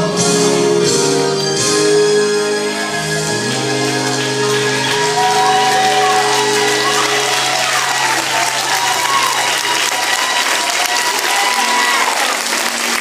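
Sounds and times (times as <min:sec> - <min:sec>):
music playing: 0:00.0 - 0:13.0
audience applauding: 0:02.4 - 0:13.0.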